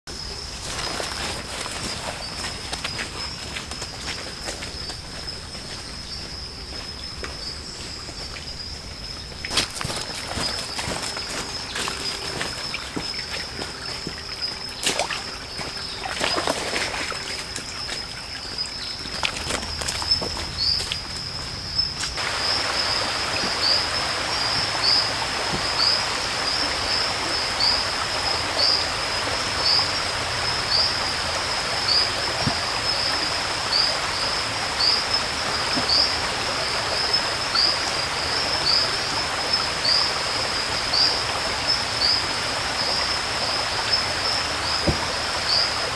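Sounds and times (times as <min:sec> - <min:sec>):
high insect drone: 0:00.1 - 0:45.9
rushing stream: 0:00.1 - 0:45.9.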